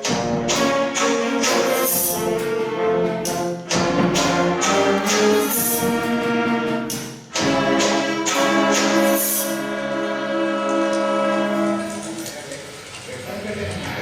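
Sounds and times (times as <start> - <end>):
wind band playing chords: 0.0 - 12.3.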